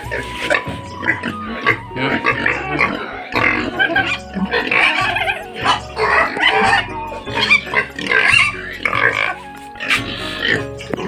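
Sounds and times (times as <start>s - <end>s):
music with a steady beat: 0.0s - 11.0s
pigs squealing: 0.0s - 11.0s.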